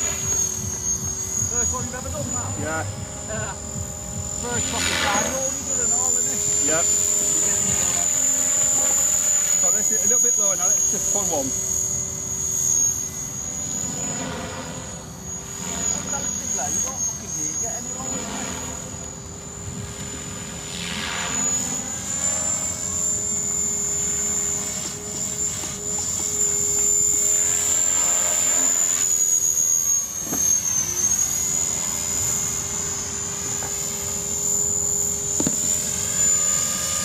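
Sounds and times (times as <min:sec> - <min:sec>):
helicopter whooshing past: 0:00.0 - 0:37.0
model helicopter whine: 0:00.0 - 0:37.0.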